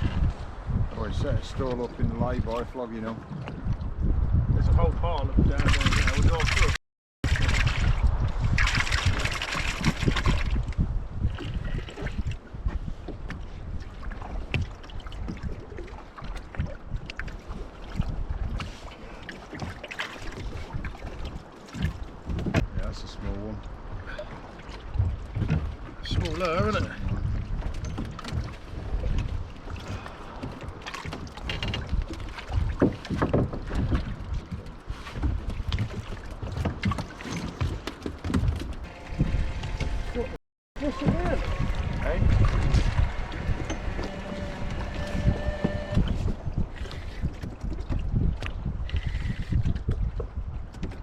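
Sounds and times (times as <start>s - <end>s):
water sloshing against boat: 0.0s - 51.0s
wind buffeting microphone: 0.0s - 51.0s.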